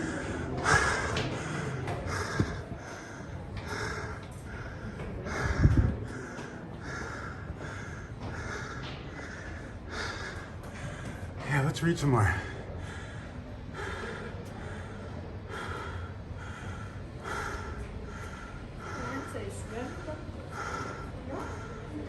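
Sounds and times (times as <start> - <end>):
man breathing hard: 0.0 - 11.4, 12.2 - 22.0.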